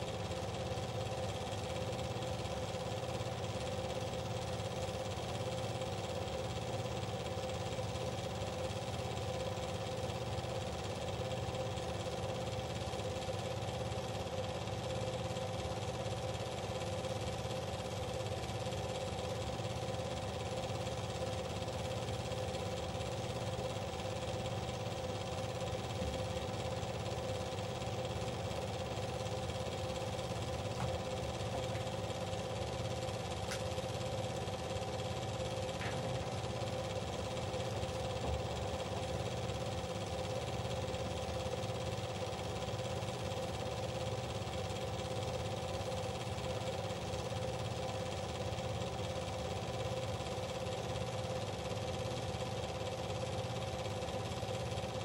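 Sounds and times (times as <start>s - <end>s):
film projector motor whirring: 0.0s - 55.0s.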